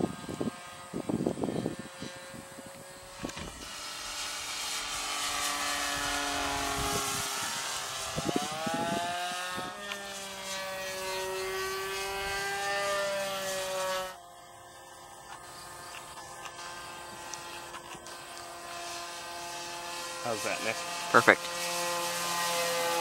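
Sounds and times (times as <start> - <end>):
model plane motor droning: 0.0 - 23.0.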